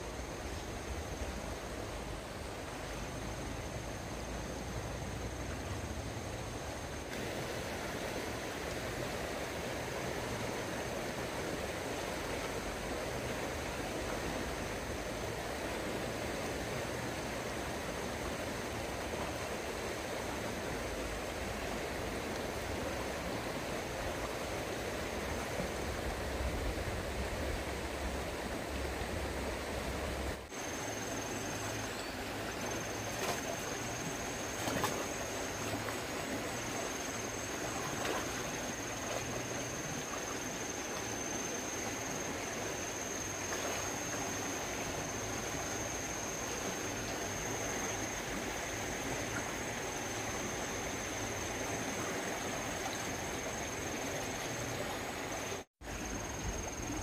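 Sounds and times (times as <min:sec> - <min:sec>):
flowing stream water: 0:00.0 - 0:57.0.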